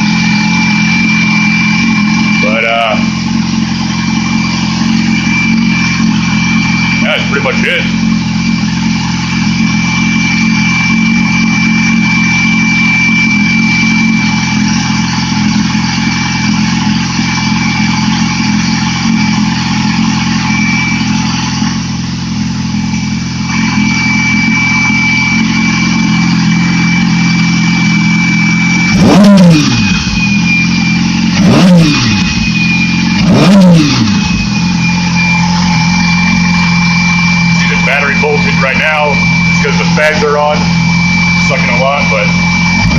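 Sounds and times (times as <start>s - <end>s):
engine revving: 0.0s - 42.9s
motorcycle engine idling: 0.0s - 42.9s.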